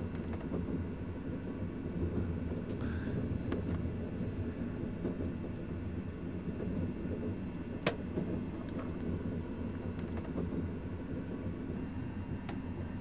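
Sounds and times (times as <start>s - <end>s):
train rumbling from inside carriage: 0.0s - 13.0s.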